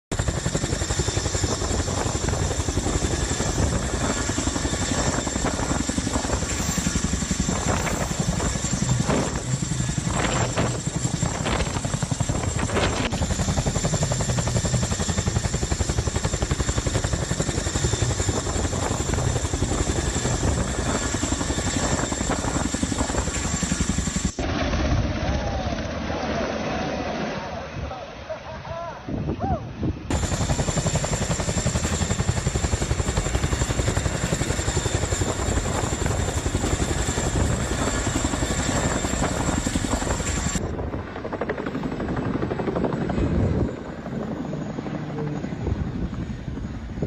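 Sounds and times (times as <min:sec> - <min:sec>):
helicopter rotor beating: 0:00.1 - 0:28.2, 0:30.0 - 0:47.0.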